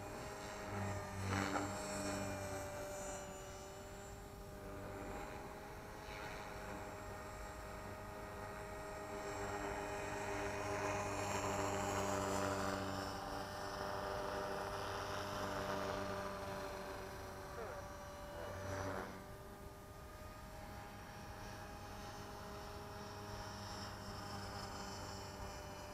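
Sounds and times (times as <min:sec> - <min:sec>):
rc helicopter motor and rotor humming: 0:00.0 - 0:25.9.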